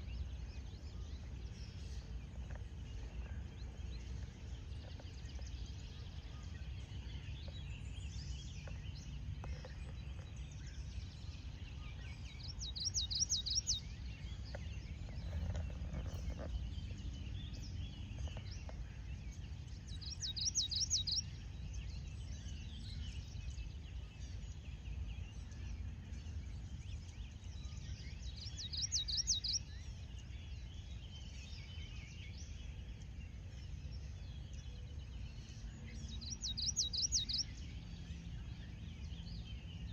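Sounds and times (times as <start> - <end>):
birds chirping faintly: 0.0 - 39.9.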